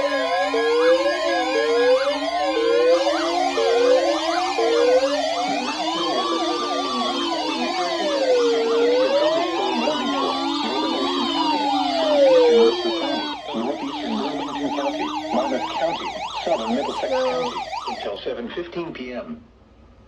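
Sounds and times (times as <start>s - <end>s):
siren fast yelping: 0.0s - 18.1s
siren slow wail: 0.0s - 18.2s.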